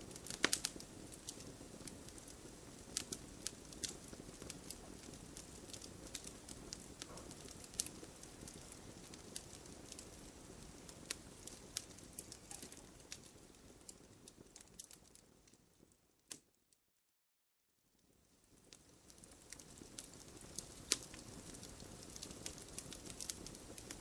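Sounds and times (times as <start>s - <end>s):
bonfire flames rustling: 0.0s - 16.5s, 17.9s - 24.0s
burning wood crackling and popping: 0.0s - 16.5s, 18.0s - 24.0s.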